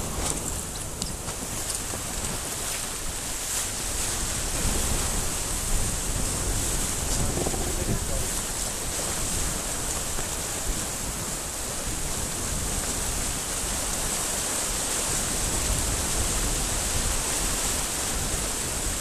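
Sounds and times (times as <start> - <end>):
water rushing along boat hull: 0.0 - 19.0
wind noise: 0.0 - 19.0.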